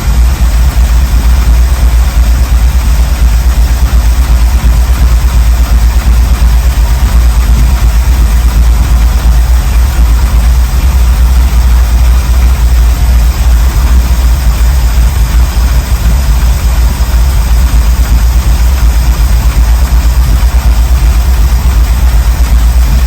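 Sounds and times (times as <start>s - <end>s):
engine idling with low rumble: 0.0s - 23.0s.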